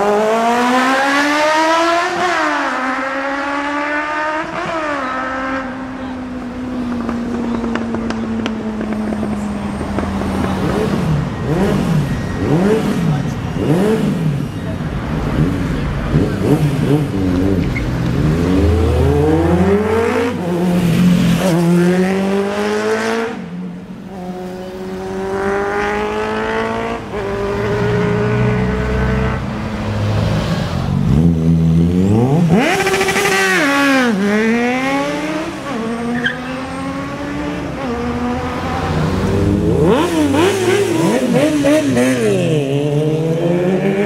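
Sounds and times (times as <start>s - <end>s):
sport motorcycles accelerating hard: 0.0s - 44.0s.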